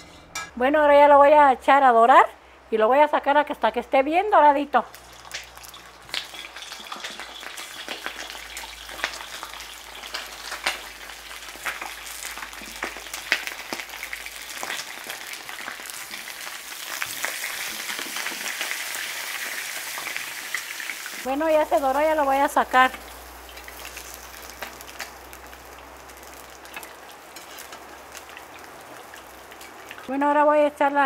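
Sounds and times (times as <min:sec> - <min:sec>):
oil popping and crackling: 0:04.8 - 0:30.1
chicken sizzling in oil: 0:04.9 - 0:30.1.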